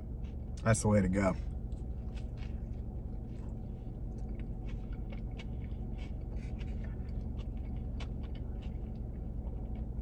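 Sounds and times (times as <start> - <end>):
chewing burger: 0.0 - 0.8, 1.4 - 10.0
steady low hum: 0.0 - 10.0.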